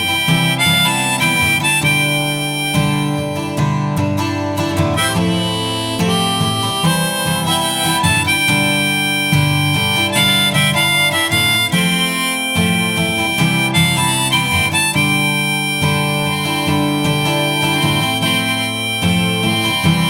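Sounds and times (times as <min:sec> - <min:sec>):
harmonica melody: 0:00.0 - 0:20.0
strummed acoustic guitar: 0:00.0 - 0:20.0.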